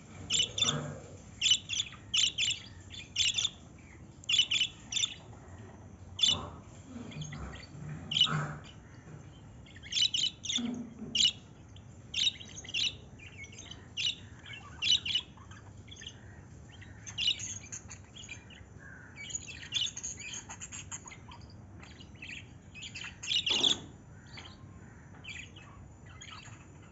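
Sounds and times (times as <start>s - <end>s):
birds chirping and calling: 0.0s - 26.9s.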